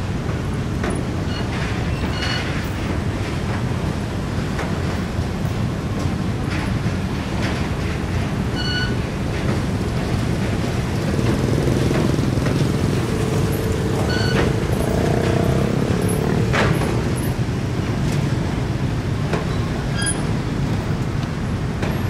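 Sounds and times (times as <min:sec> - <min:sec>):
heavy engines rumbling: 0:00.0 - 0:22.0.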